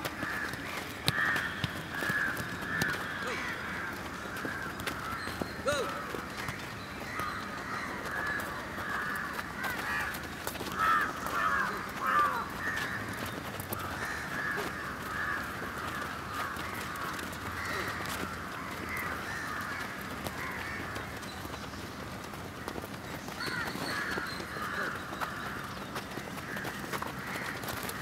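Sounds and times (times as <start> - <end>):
crows cawing: 0.0 - 21.6, 22.4 - 28.0
footballs being kicked: 0.0 - 28.0.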